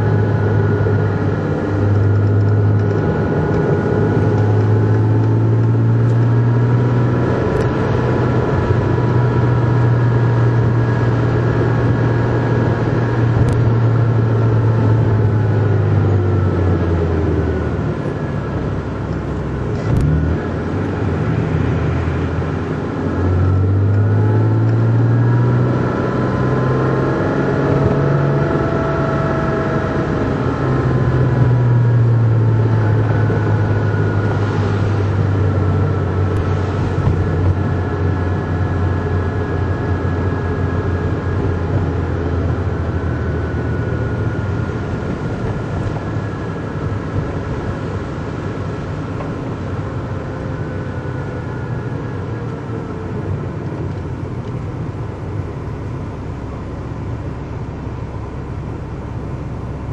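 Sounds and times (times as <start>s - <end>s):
car engine from inside cabin: 0.0s - 59.9s.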